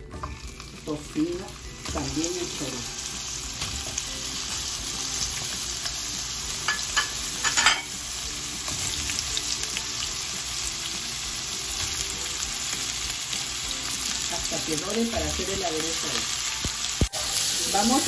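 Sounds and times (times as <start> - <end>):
bacon sizzling in a pan: 0.0 - 18.0.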